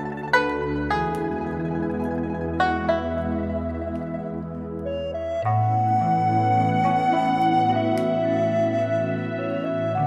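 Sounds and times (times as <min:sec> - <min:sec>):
soft flute-like melody: 0:00.0 - 0:10.0.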